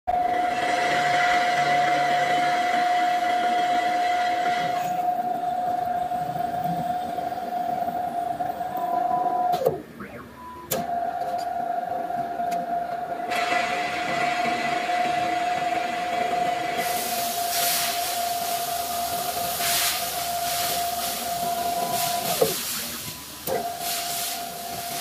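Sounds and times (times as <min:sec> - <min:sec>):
drill spindle whining: 0:00.1 - 0:25.0.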